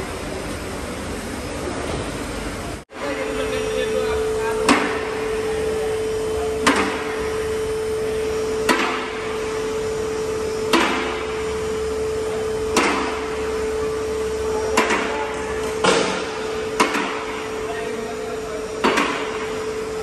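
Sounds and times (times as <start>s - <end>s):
electric pump motor humming: 0.0s - 20.0s.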